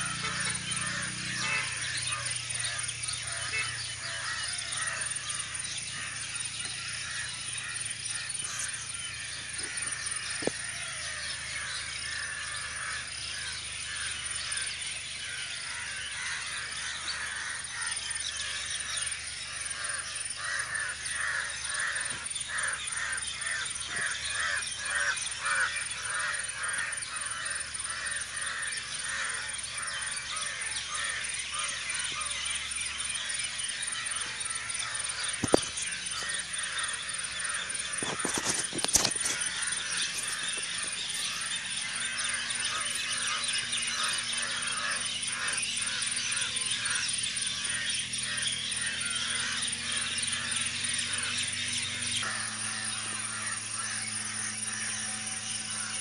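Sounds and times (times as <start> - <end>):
birds calling: 0.0 - 56.0
crows cawing: 0.0 - 56.0
fast repeated bird calls: 0.0 - 56.0.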